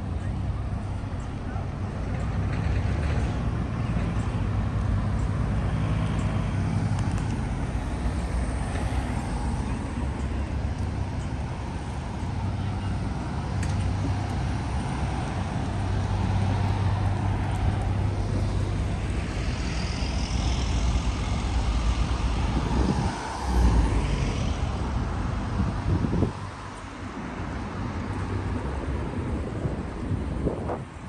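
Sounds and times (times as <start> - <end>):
low engine hum of traffic: 0.0 - 31.0
vehicles passing by: 0.0 - 31.0.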